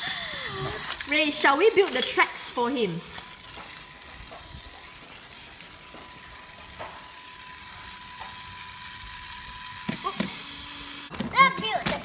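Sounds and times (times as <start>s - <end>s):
toy train motor whining: 0.0s - 12.0s.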